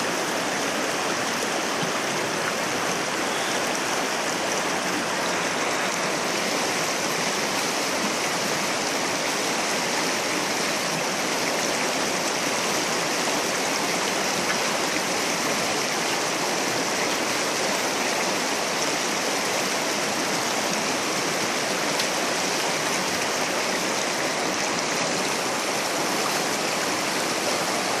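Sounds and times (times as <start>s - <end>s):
river rushing over rocks: 0.0s - 28.0s.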